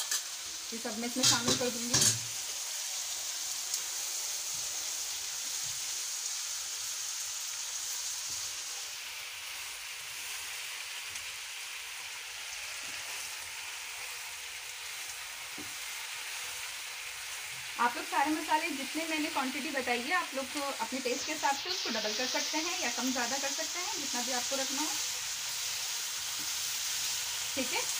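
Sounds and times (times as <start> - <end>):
food sizzling in oil: 0.0 - 27.9.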